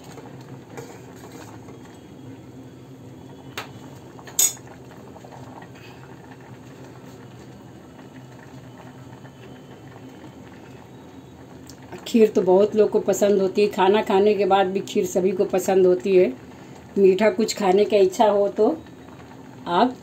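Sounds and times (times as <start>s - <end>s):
rice pudding bubbling in a pot: 0.0s - 20.0s.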